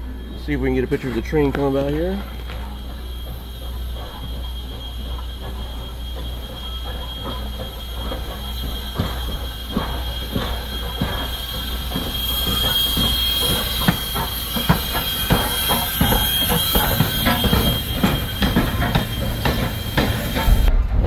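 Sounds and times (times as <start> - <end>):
steam hissing: 0.0 - 20.7
locomotive wheels clanking over rail joints: 0.0 - 20.8.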